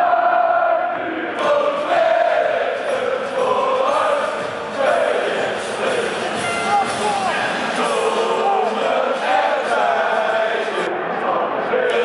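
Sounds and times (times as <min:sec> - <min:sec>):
crowd singing in unison: 0:00.0 - 0:12.0.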